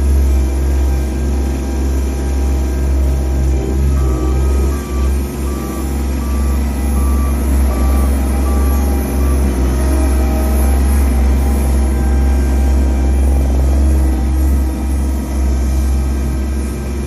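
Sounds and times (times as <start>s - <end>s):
reversing alarm beeping: 0.0s - 17.0s
roller engine running: 0.0s - 17.0s.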